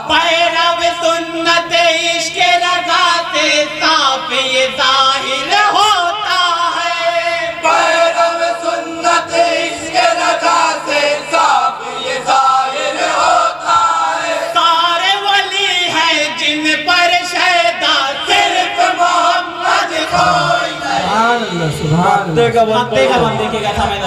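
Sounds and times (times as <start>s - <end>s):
men singing in chorus: 0.0s - 21.5s.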